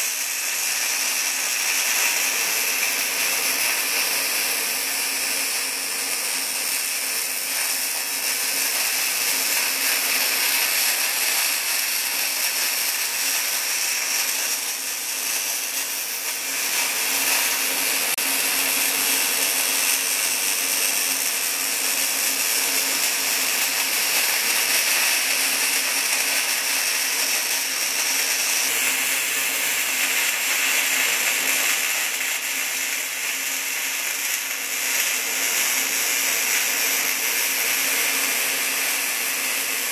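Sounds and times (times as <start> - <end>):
welding arc hiss: 0.0 - 39.9.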